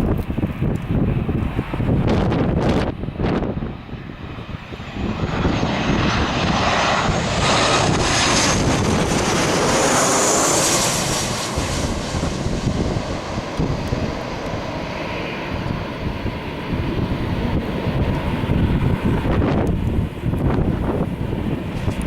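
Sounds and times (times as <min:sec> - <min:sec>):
airplane engines with high whine: 0:00.0 - 0:22.0
wind buffeting microphone: 0:00.0 - 0:22.0.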